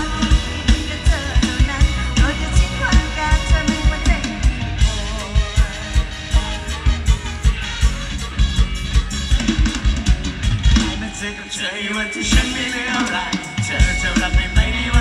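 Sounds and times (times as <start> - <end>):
live band music: 0.0 - 15.0
wavering lead melody: 0.0 - 15.0.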